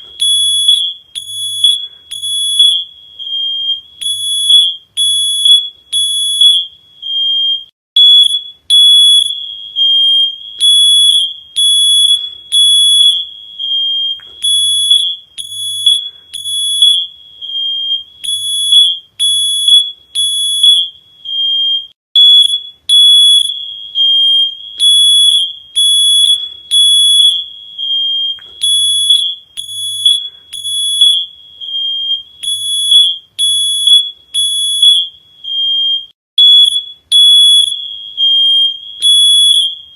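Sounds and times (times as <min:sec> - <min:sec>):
smoke alarm beeping: 0:00.0 - 0:39.9.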